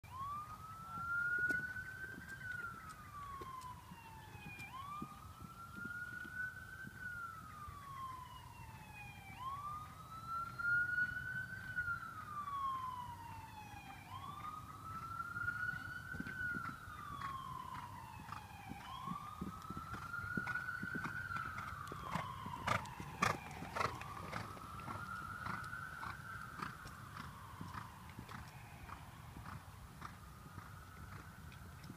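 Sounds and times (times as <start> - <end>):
emergency siren wailing: 0.0 - 31.9.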